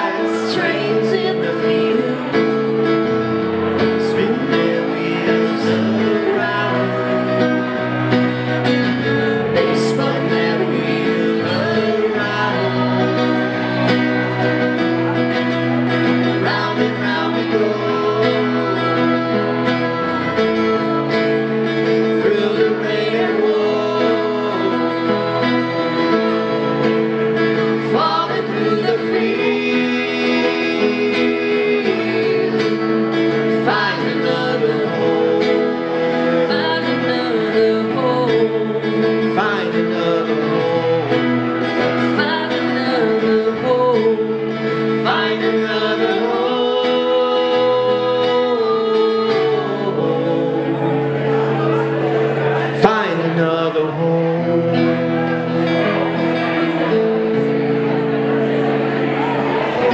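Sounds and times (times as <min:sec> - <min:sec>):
acoustic guitars playing: 0:00.0 - 0:59.9
person singing: 0:00.0 - 0:59.9.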